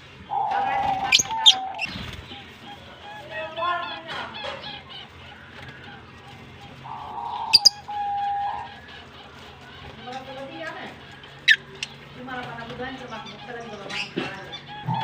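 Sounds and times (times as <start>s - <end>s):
lovebirds chirping and chattering: 0.0s - 15.0s.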